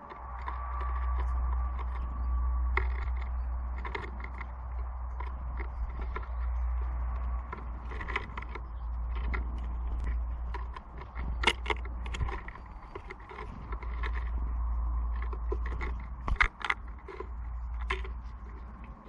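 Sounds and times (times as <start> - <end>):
birds pecking and landing: 0.0 - 19.0
steady low rumble: 0.0 - 19.0.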